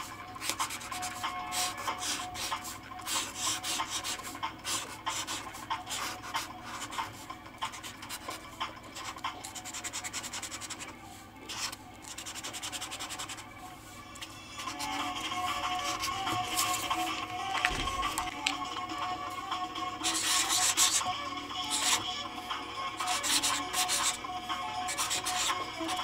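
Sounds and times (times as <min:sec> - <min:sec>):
marker scratching on paper: 0:00.0 - 0:17.2, 0:20.0 - 0:22.1, 0:23.0 - 0:24.2, 0:24.8 - 0:26.0.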